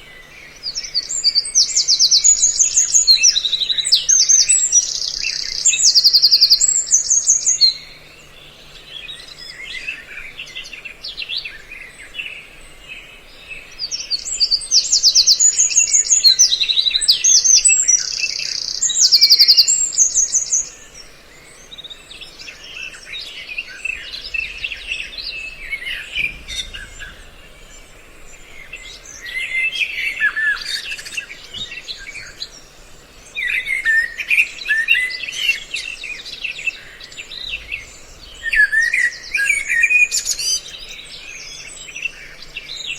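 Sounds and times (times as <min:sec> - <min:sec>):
birds chirping and trilling: 0:00.0 - 0:42.9.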